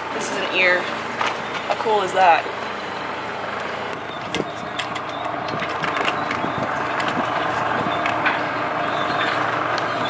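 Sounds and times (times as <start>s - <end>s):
outboard motor idling: 0.0s - 10.0s.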